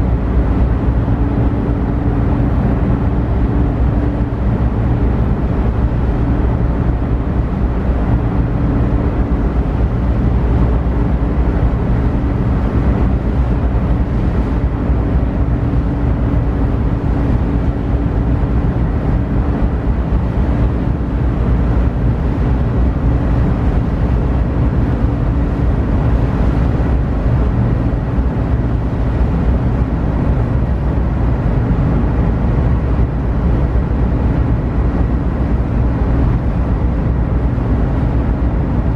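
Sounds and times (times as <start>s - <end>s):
ferry engines droning: 0.0s - 38.9s.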